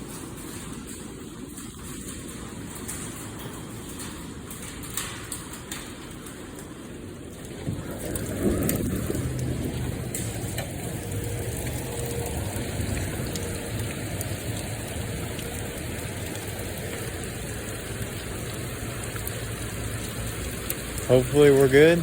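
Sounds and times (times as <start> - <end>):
heavy rain pouring: 0.0 - 22.0
low steady hum: 0.0 - 22.0.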